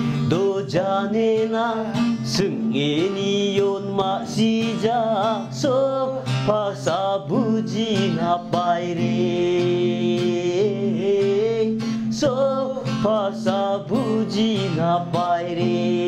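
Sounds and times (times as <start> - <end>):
man singing: 0.0 - 16.0
strummed acoustic guitar: 0.0 - 16.0.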